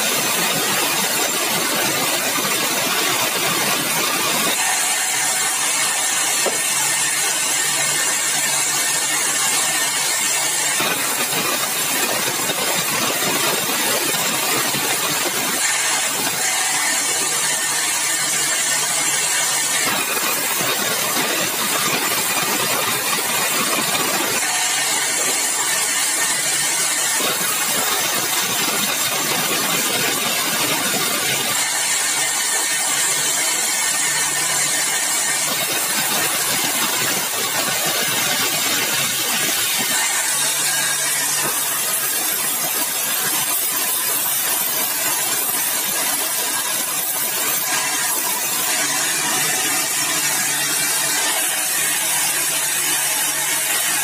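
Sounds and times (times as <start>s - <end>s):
machine humming and hissing: 0.0s - 54.0s
sawmill saw cutting wood: 0.0s - 54.0s.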